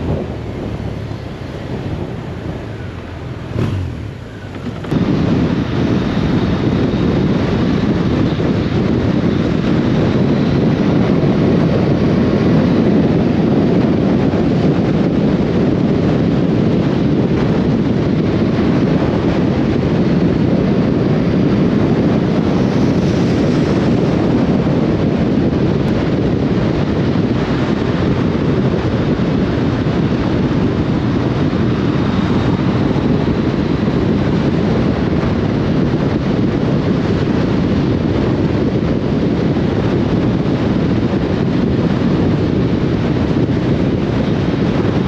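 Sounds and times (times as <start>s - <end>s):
motorcycle and road noise: 0.0s - 45.0s
wind buffeting microphone: 0.0s - 45.0s.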